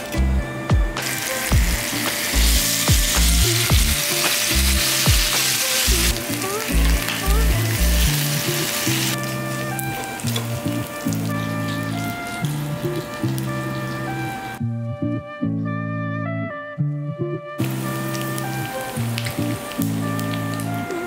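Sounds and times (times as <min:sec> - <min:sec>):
background music with steady beat: 0:00.0 - 0:21.0
meat sizzling on grill pan: 0:01.0 - 0:14.6, 0:17.6 - 0:21.0.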